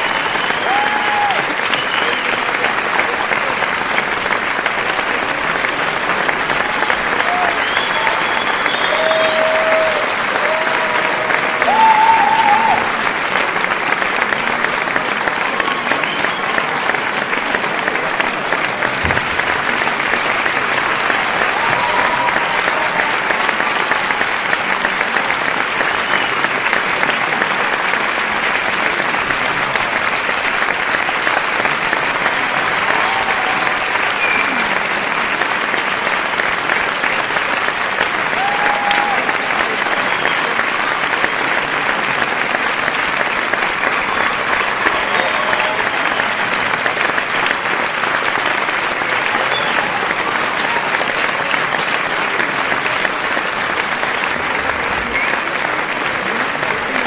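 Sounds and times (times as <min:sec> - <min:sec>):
crowd cheering: 0:00.0 - 0:57.0
crowd clapping: 0:00.0 - 0:57.0.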